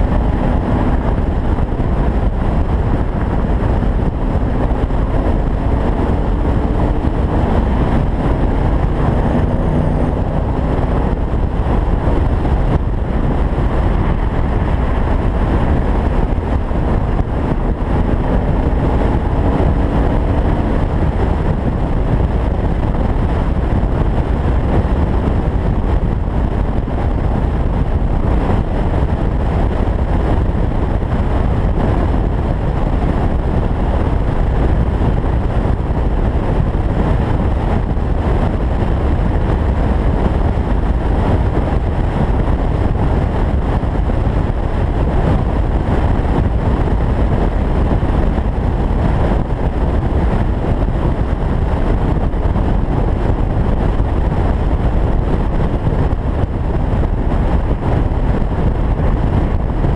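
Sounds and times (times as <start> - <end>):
road noise: 0.0 - 59.9
wind buffeting: 0.0 - 59.9.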